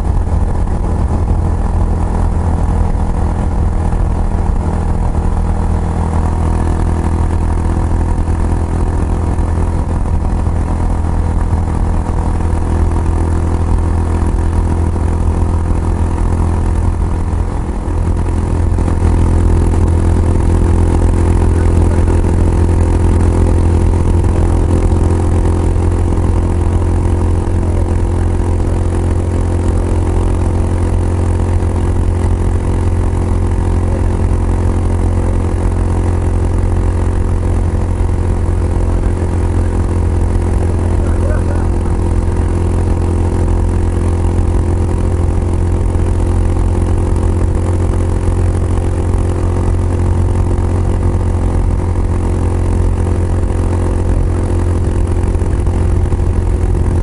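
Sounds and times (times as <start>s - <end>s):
motorcycle engine exhaust note: 0.0s - 57.0s.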